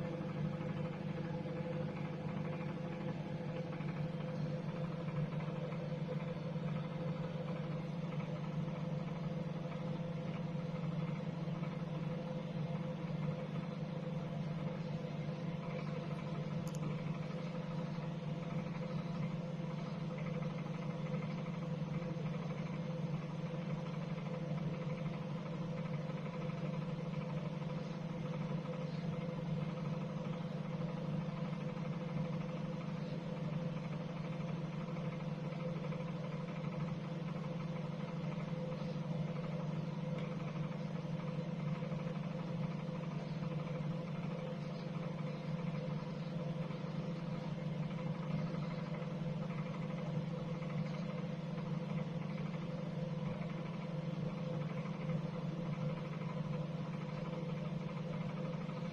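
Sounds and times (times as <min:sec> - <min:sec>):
microwave oven humming: 0:00.0 - 0:58.9.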